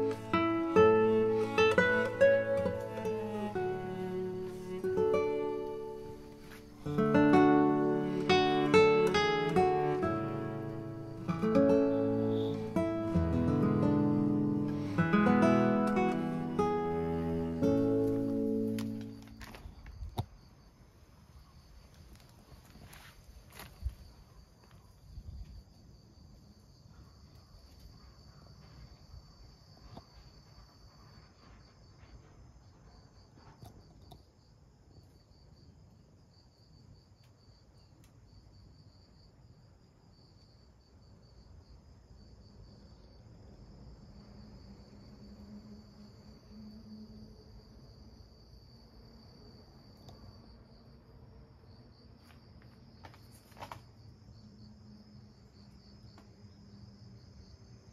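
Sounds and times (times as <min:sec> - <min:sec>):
insects chirping: 0:00.0 - 0:57.9.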